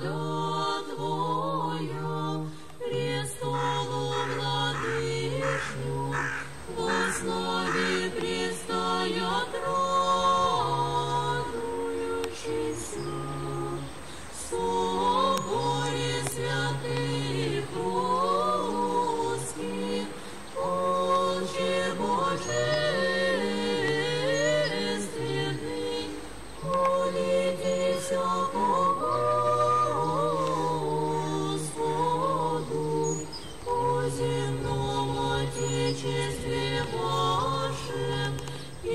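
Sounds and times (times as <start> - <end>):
choir chanting a cappella: 0.0 - 38.9.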